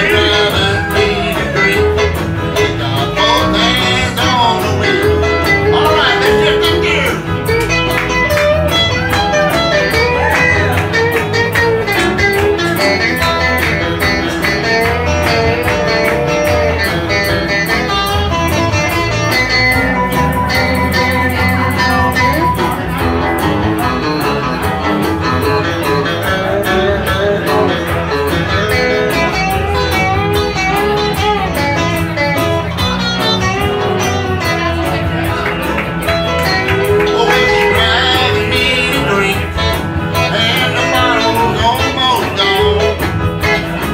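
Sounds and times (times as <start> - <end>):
electric guitar lead lines: 0.0 - 43.9
live country band playing: 0.0 - 43.9.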